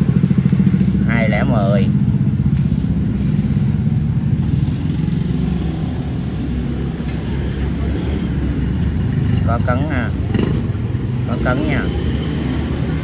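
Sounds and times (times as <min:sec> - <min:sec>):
engine running with low throb: 0:00.0 - 0:13.0.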